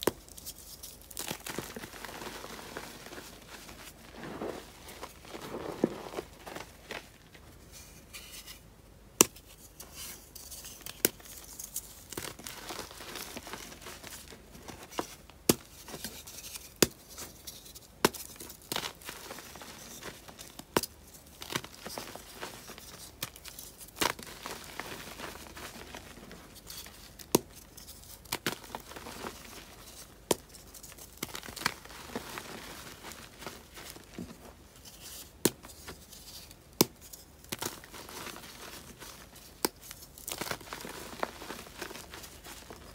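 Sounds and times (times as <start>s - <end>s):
chalk crunching and crumbling: 0.0s - 8.6s, 9.2s - 42.9s.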